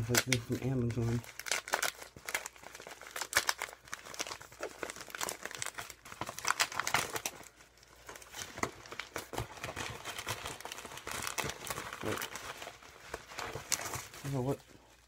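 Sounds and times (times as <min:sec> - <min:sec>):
plastic mailer crinkling: 0:00.0 - 0:14.6.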